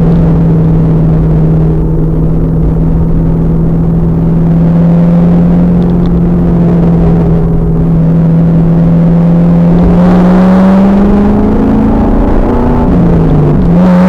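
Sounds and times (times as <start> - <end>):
car engine heavy rumble: 0.0 - 14.0.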